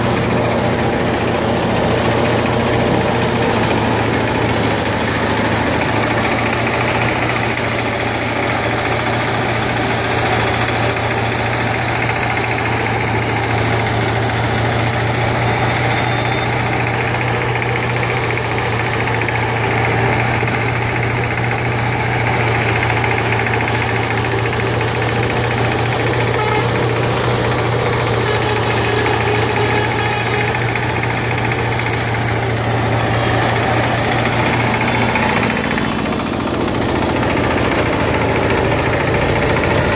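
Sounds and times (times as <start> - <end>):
thresher engine running: 0.0 - 39.9.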